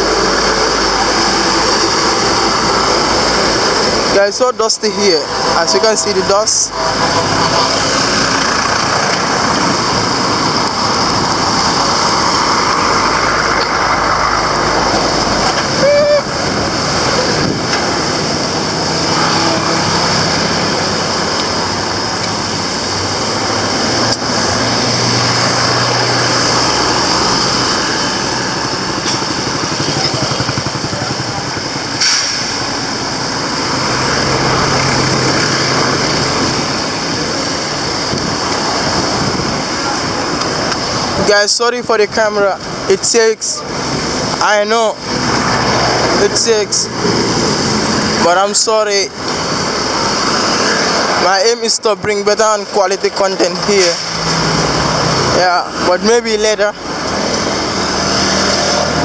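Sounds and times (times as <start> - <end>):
vehicles passing close by: 0.0 - 59.0.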